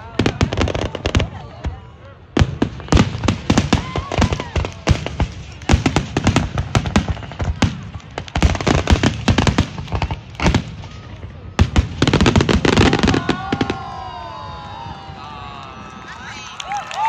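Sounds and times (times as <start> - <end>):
fireworks bangs and cracks: 0.0 - 15.2
rapid fireworks crackling: 0.0 - 17.0.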